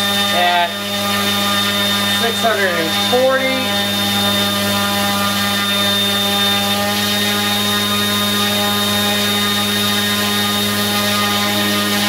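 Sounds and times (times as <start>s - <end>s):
high motor whine: 0.0s - 12.0s
propeller drone: 0.0s - 12.0s.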